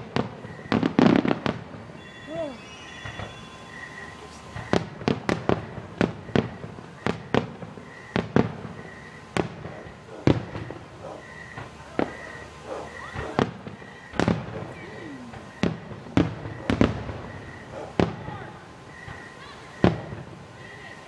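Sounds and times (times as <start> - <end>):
distant fireworks bursting: 0.0 - 21.0.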